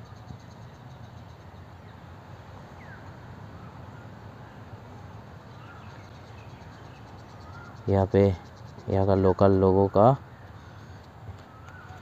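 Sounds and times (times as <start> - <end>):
faint bird chirp: 0.0 - 12.0.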